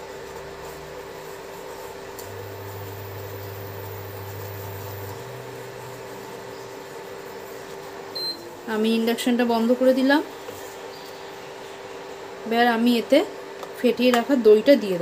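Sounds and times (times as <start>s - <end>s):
cooktop humming with whine: 0.0s - 15.0s.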